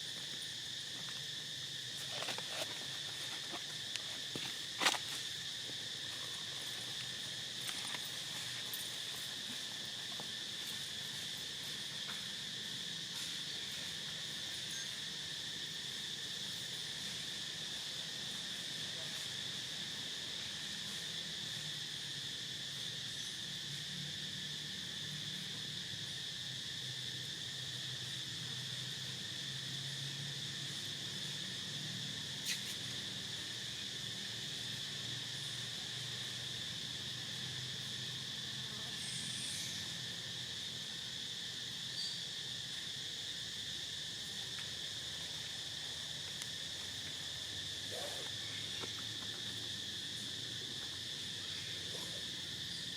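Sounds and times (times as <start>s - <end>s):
insect chorus drone: 0.0s - 52.9s.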